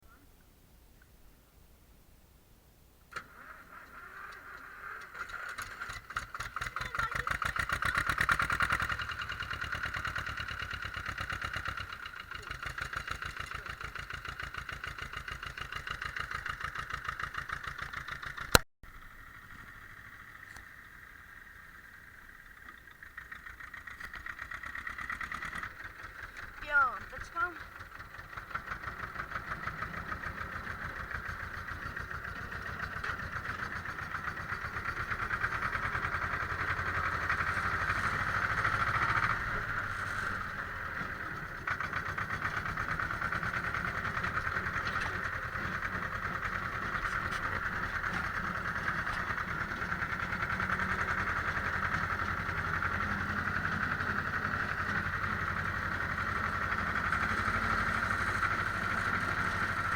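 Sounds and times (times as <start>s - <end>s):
tractor diesel engine knocking: 5.2s - 59.9s.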